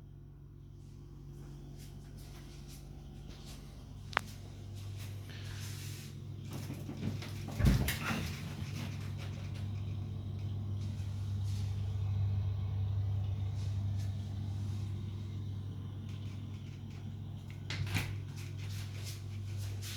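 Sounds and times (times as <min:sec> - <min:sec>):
refrigerator compressor humming: 0:00.0 - 0:19.9.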